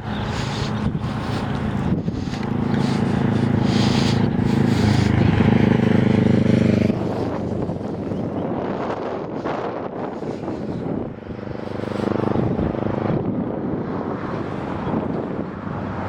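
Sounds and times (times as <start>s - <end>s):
vehicle engine humming: 0.0s - 16.0s
wind buffeting microphone: 0.0s - 16.0s.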